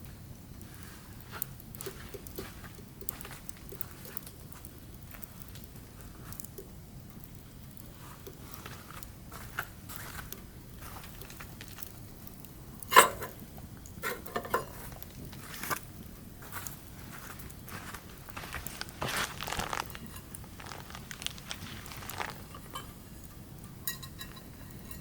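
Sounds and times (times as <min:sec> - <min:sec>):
firewood popping: 0:00.0 - 0:24.9
firewood crackling: 0:00.0 - 0:25.0.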